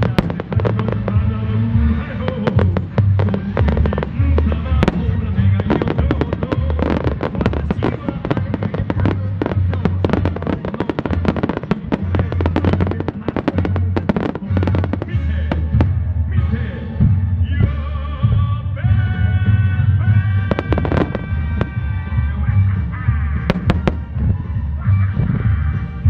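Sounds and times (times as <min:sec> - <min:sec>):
fireworks bursts and launches: 0:00.0 - 0:16.0, 0:20.4 - 0:25.4
show music with heavy bass: 0:00.0 - 0:26.0.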